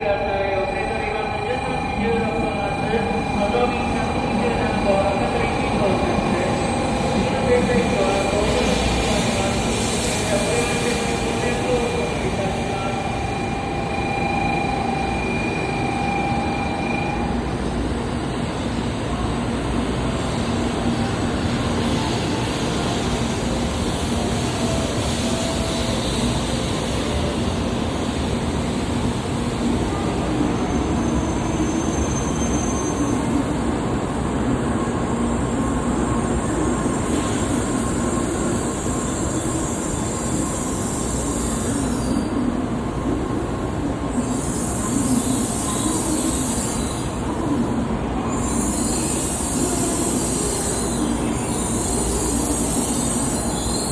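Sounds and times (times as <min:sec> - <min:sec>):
train wheels running on rails: 0:00.8 - 0:53.9.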